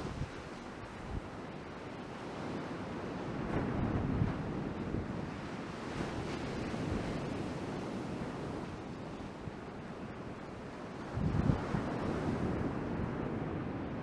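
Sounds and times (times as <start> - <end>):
ocean surf washing: 0.0 - 14.0
wind buffeting microphone: 0.0 - 14.0.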